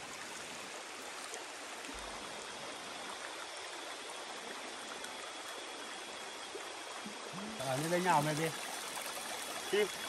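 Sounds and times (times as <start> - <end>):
stream water rushing over stones: 0.0 - 10.0.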